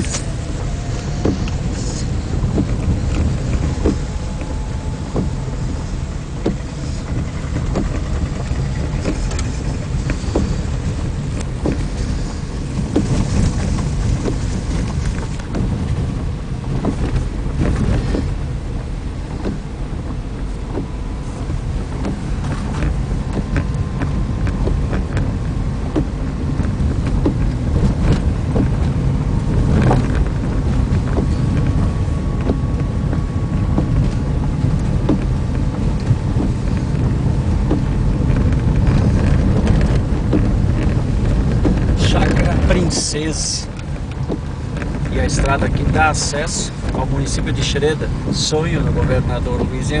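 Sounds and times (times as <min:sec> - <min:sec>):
car rumbling on dirt road: 0:00.0 - 0:50.0
knocks and clicks from rough road: 0:00.0 - 0:50.0.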